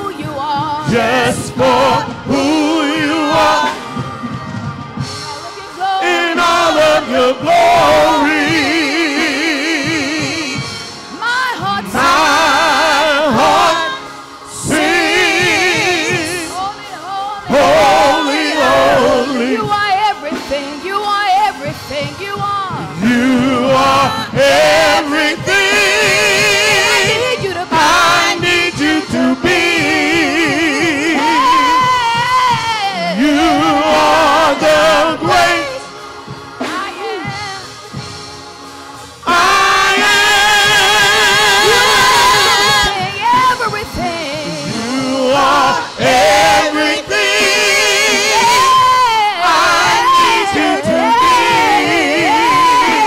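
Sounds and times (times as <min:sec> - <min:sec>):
choir singing worship song: 0:00.0 - 0:53.0.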